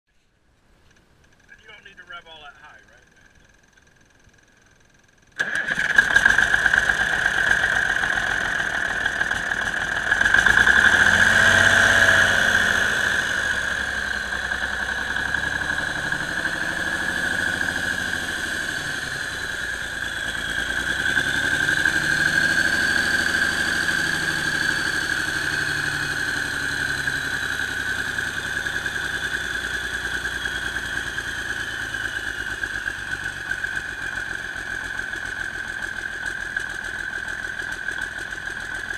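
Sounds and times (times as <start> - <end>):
steady high whine: 0.9 - 38.9
diesel engine starting and revving: 5.4 - 38.9.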